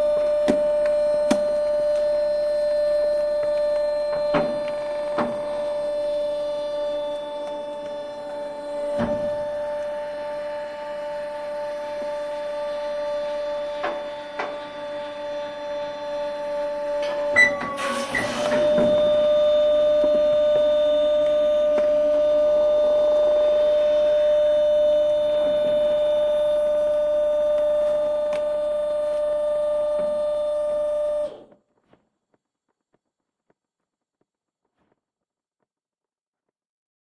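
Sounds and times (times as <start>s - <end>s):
trash compactor motor hum: 0.0s - 31.4s.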